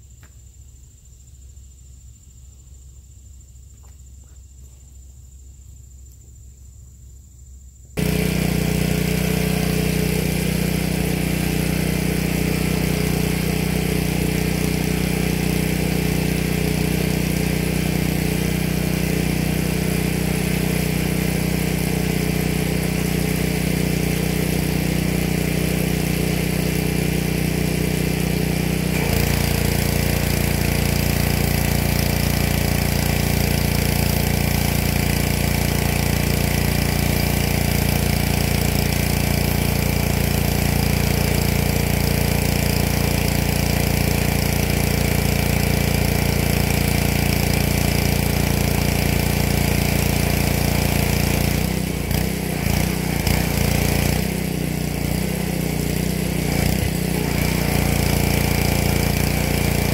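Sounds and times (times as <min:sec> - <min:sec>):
pressure washer engine running: 0:08.0 - 0:59.9.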